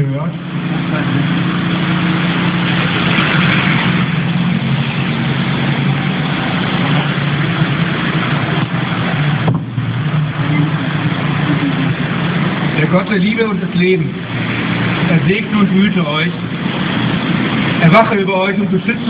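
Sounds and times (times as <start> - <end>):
engine humming: 0.0 - 19.0
rushing noise in tunnel: 0.0 - 19.0.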